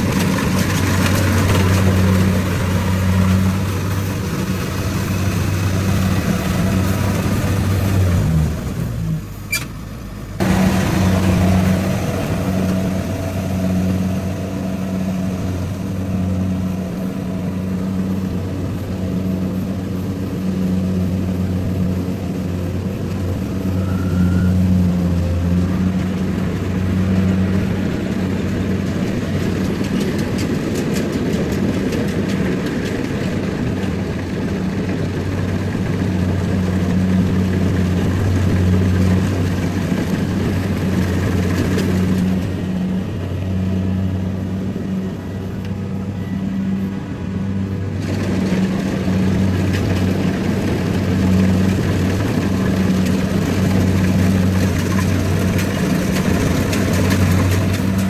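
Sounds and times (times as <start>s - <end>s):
combine harvester engine running: 0.0s - 58.0s
machinery clatter: 0.0s - 58.0s.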